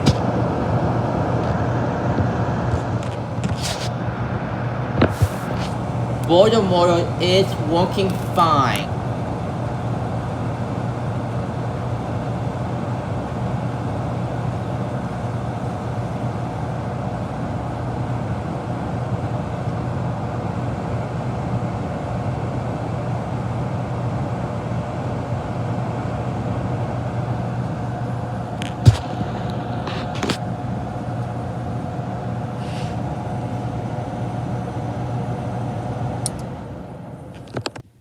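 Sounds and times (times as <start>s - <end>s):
furnace blower motor running: 0.0s - 37.7s.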